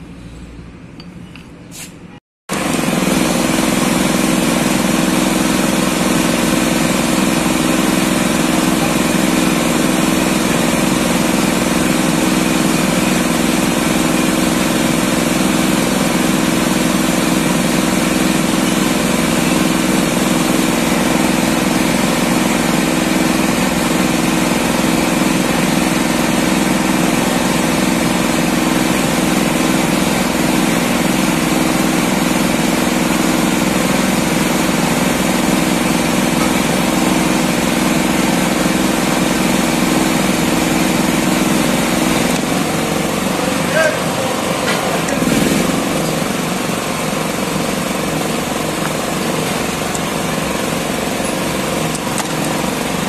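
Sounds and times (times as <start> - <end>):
heat gun fan humming: 2.5 - 53.0.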